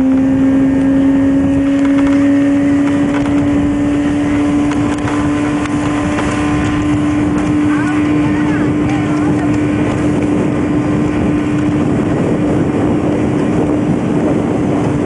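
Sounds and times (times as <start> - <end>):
motor drone rising in pitch: 0.0 - 15.0
wind rumble on microphone: 0.0 - 15.0.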